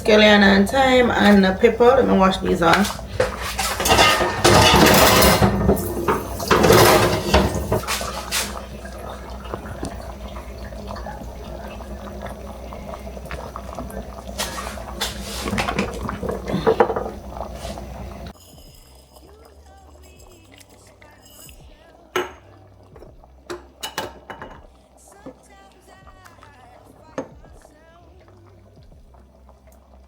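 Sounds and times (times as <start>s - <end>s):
pots and utensils clinking: 0.0s - 25.4s
kitchen tap running: 0.0s - 30.0s.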